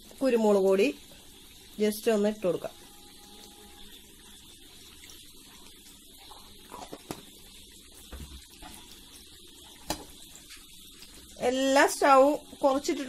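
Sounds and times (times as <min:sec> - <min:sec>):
eggs sizzling in oil: 0:00.0 - 0:13.0.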